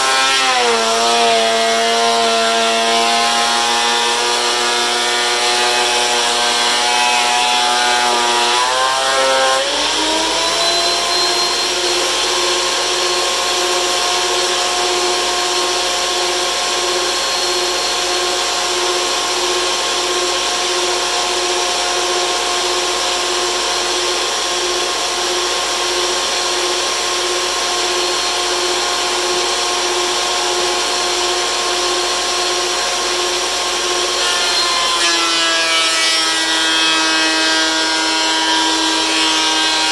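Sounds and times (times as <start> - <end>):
thickness planer running: 0.0 - 39.9.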